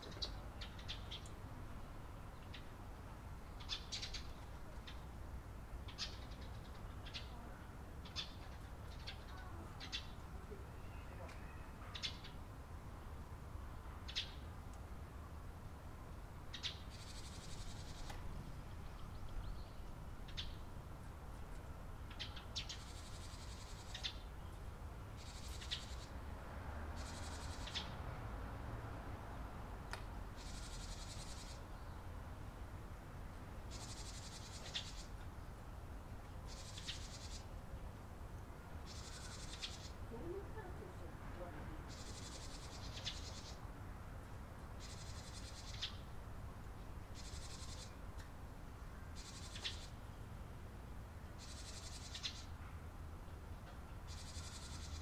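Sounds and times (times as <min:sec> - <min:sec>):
sparrows chirping: 0:00.0 - 0:14.7, 0:16.3 - 0:26.2, 0:27.0 - 0:28.0, 0:30.3 - 0:32.4, 0:33.7 - 0:43.8, 0:44.7 - 0:46.2, 0:47.1 - 0:48.2, 0:48.8 - 0:50.3, 0:51.4 - 0:52.6, 0:54.0 - 0:55.0.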